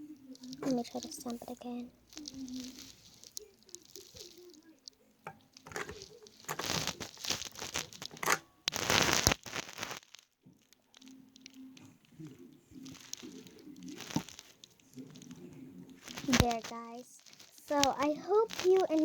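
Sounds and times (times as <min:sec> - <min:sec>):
paper rustling and crinkling: 0:00.0 - 0:19.0.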